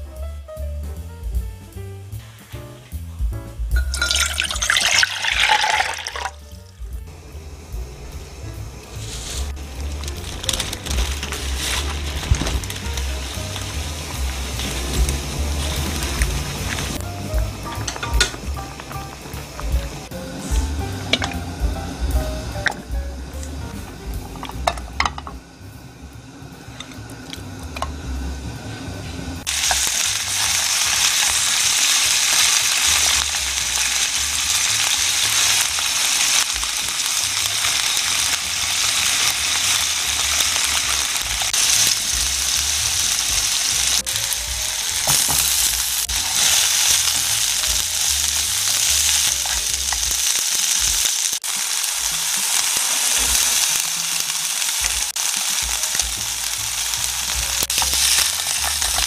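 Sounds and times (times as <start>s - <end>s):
chicken sizzling in a frying pan: 3.7s - 59.0s.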